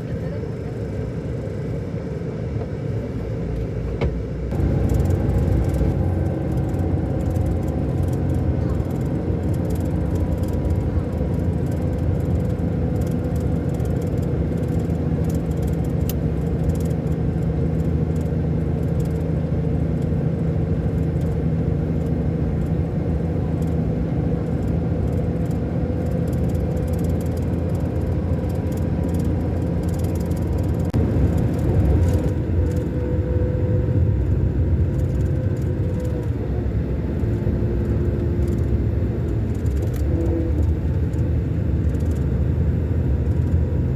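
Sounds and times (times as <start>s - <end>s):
coach diesel engine drone: 0.0s - 43.9s
road rumble: 0.0s - 43.9s.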